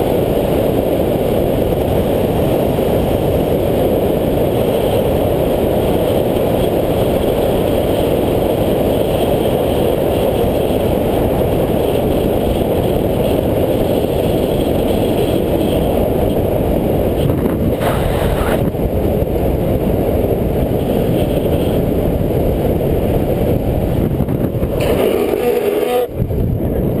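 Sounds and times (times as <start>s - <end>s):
road rumble: 0.0s - 27.0s
wind rushing over microphone: 0.0s - 27.0s.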